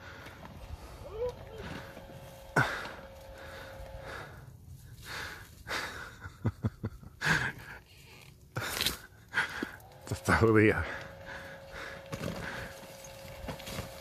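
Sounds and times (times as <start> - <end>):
person breathing hard: 0.0 - 6.5, 7.1 - 13.4.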